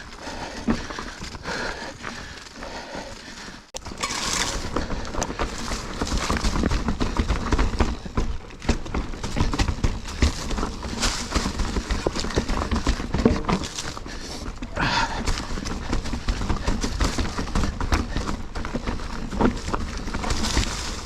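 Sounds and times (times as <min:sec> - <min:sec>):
bike knocking and rattling over rocks: 0:00.0 - 0:21.0.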